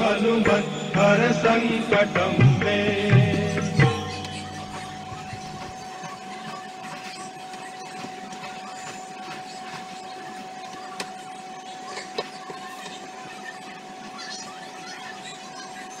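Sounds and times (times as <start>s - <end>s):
steady thin whine: 0.0s - 14.2s.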